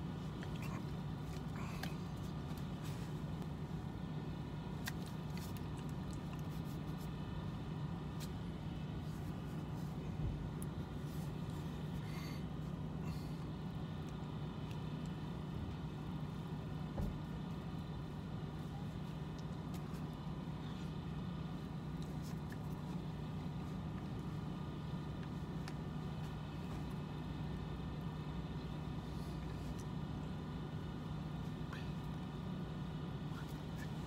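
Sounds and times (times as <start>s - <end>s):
vehicle engine hum: 0.0s - 34.0s.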